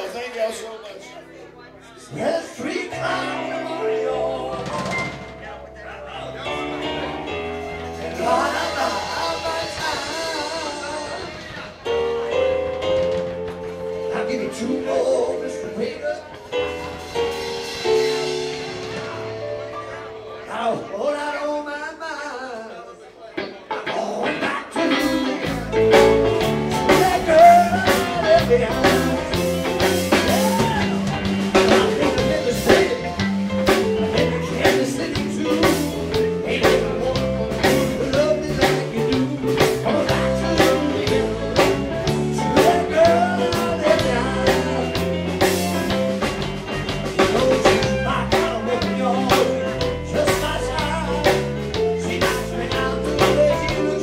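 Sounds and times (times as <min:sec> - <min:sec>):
walking bass: 0:02.0 - 0:20.8, 0:23.4 - 0:54.0
electric guitar: 0:02.6 - 0:21.0, 0:23.3 - 0:54.0
drum kit beat: 0:04.4 - 0:05.7, 0:06.6 - 0:15.6, 0:16.4 - 0:20.0, 0:23.6 - 0:54.0.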